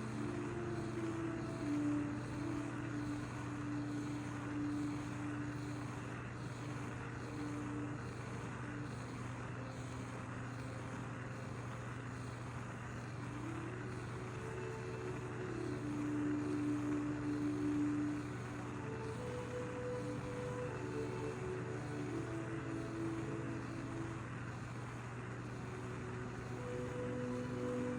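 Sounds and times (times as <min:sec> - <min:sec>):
soldering torch hissing: 0:00.0 - 0:27.9
steady low hum: 0:00.0 - 0:27.9.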